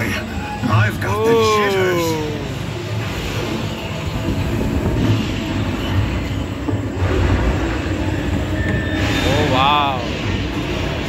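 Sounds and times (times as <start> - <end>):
ride cars rumbling on track: 0.0 - 11.0.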